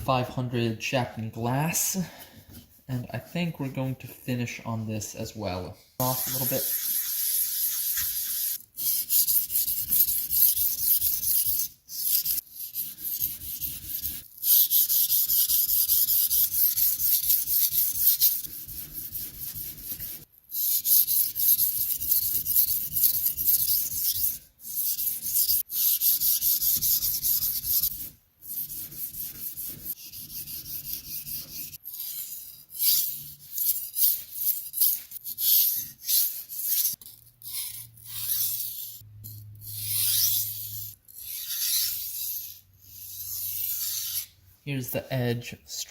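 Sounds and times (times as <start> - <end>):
knife scraping on whetstone: 6.0 - 44.4.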